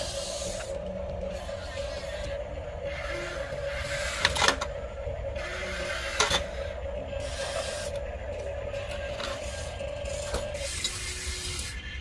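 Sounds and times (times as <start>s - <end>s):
electric motors whirring: 0.0s - 12.0s.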